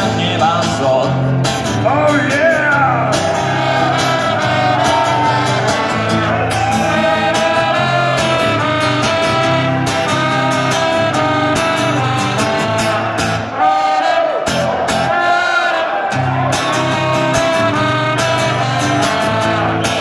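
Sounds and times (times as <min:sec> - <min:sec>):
live rock band: 0:00.0 - 0:13.5, 0:15.9 - 0:20.0
melodic lead guitar line: 0:00.0 - 0:13.6, 0:14.4 - 0:20.0.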